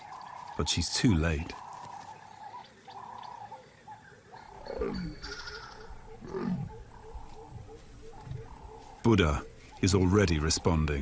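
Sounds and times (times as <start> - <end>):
leopard calling: 0.0 - 11.0.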